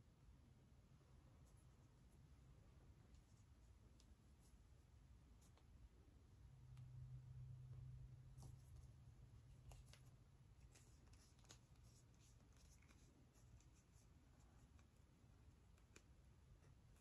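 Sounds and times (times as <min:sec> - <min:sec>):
faint rustling of hair: 0:01.2 - 0:06.0, 0:06.7 - 0:17.0.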